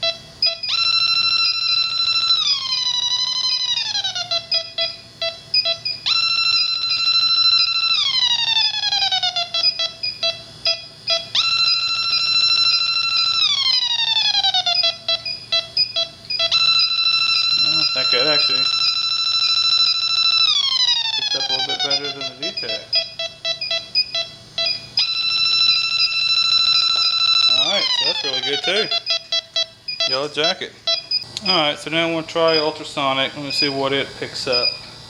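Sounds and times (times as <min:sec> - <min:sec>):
rapid ticking beeps: 0:00.0 - 0:31.3, 0:32.4 - 0:34.9
leak detector alarm tone: 0:00.0 - 0:35.0.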